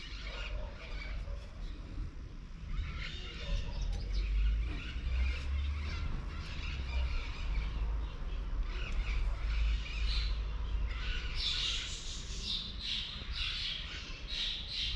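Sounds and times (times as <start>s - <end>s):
birds calling and chirping: 0.0s - 14.9s.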